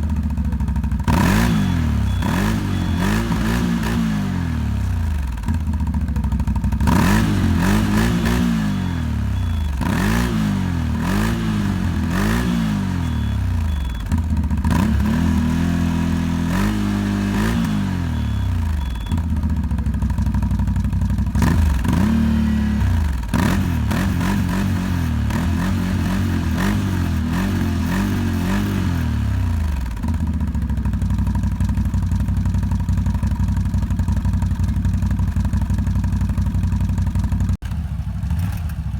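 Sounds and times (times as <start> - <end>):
atv engine revving and idling: 0.0 - 38.9.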